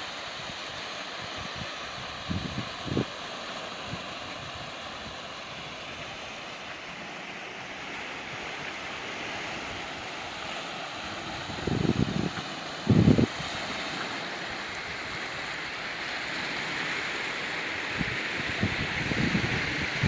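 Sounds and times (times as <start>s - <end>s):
waves washing onto rocky beach: 0.0s - 20.0s
wind: 0.0s - 20.0s.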